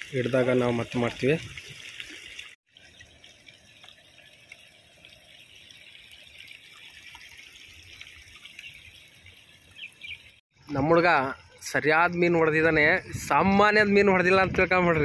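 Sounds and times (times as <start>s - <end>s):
rain hiss: 0.0s - 13.3s
soft water drips: 0.0s - 13.3s
flowing water: 0.0s - 15.0s.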